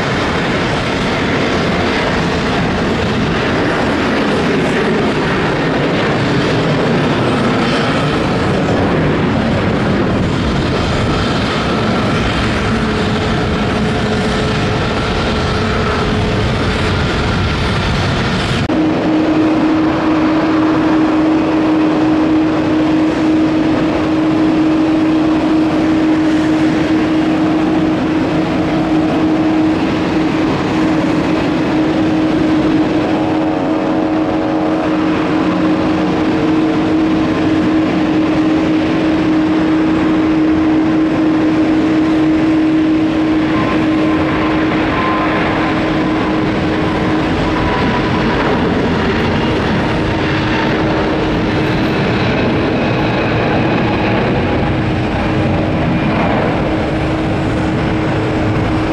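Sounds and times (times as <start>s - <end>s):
jet engines at take-off power: 0.0s - 58.9s.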